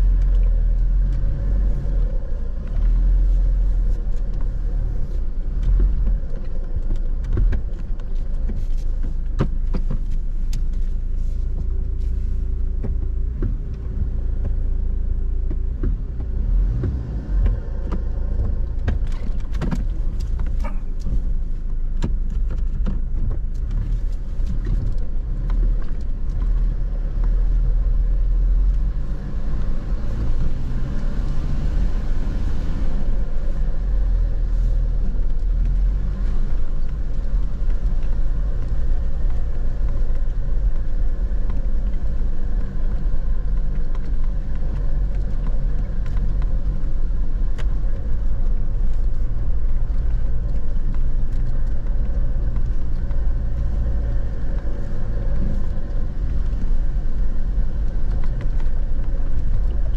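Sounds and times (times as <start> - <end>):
engine and tyres rumbling: 0.0 - 59.9
vehicle rattles and knocks: 0.0 - 59.9.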